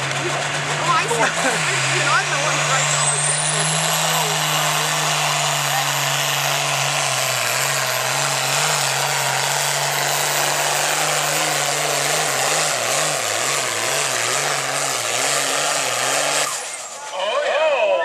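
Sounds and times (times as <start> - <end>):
tractor diesel engine running flat out: 0.0 - 18.0.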